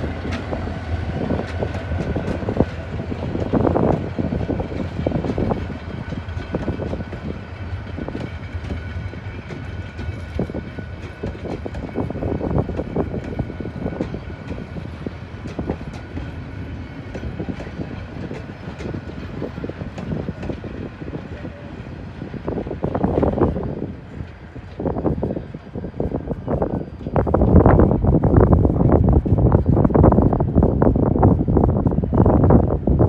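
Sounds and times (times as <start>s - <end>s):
train wheels clicking and clattering: 0.0s - 32.6s
train wheels rumbling on rails: 0.0s - 33.0s.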